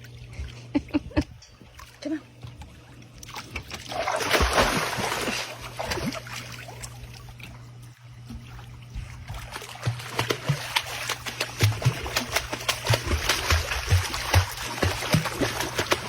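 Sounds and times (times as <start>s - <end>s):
low steady hum: 0.0s - 16.0s
water splashing: 1.7s - 7.6s, 8.4s - 16.0s.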